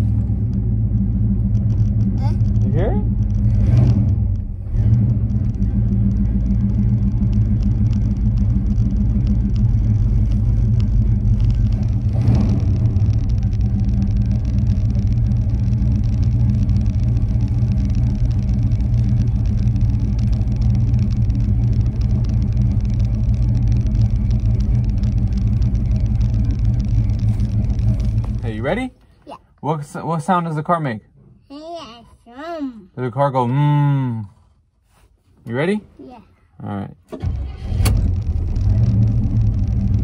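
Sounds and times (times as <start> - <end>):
car engine idling: 0.0 - 29.6, 37.1 - 40.0.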